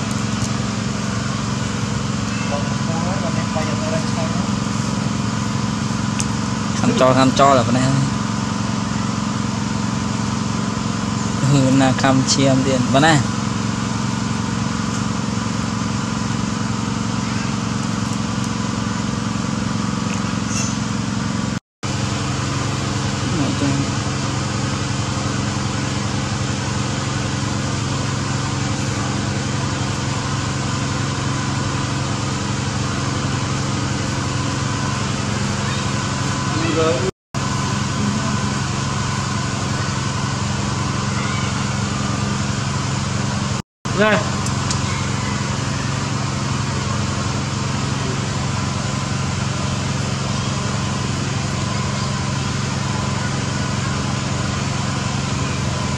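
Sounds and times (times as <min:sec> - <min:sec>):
small engine running: 0:00.0 - 0:55.9.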